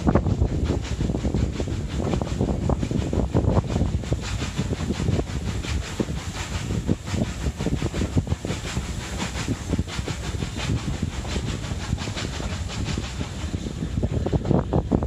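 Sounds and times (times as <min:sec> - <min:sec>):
low rumble of moving train: 0:00.0 - 0:15.0
steam locomotive exhaust chuffing: 0:00.0 - 0:15.0.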